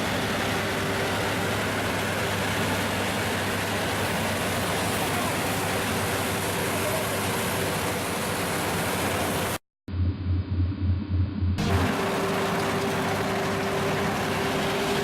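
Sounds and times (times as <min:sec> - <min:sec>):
combine harvester running: 0:00.0 - 0:15.0
low engine hum: 0:00.0 - 0:15.0.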